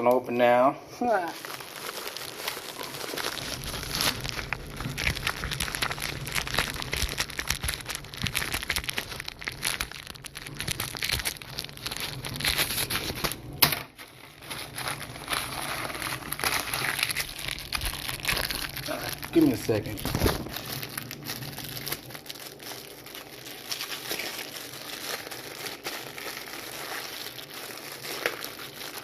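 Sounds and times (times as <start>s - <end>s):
packaging crinkling: 1.1s - 29.0s.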